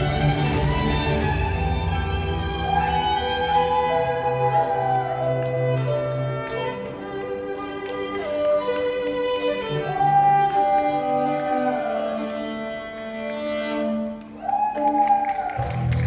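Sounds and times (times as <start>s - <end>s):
violin playing sustained notes: 0.0s - 14.5s.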